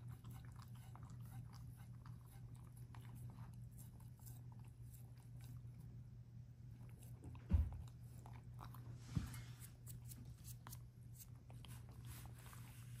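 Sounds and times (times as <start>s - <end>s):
dog chewing and crunching: 0.0s - 12.4s.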